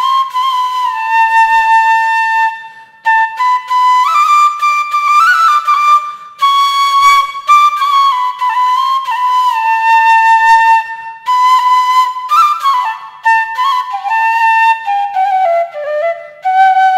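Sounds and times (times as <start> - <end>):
flute playing slow melody: 0.0 - 16.9.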